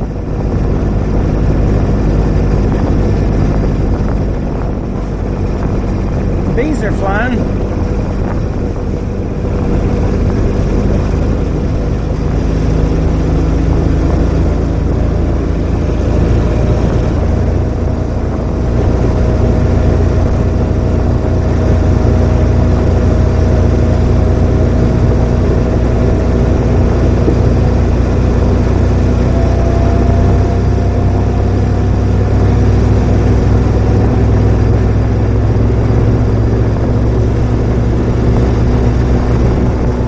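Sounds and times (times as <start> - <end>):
utility vehicle engine droning: 0.0 - 40.0.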